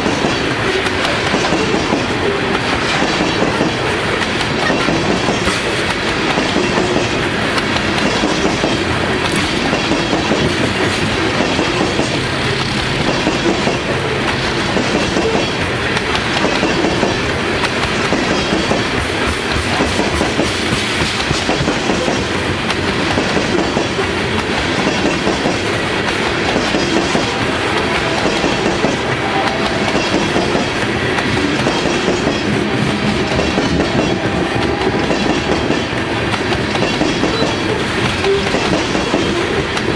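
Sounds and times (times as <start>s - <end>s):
steel wheels running on rails: 0.0s - 39.9s.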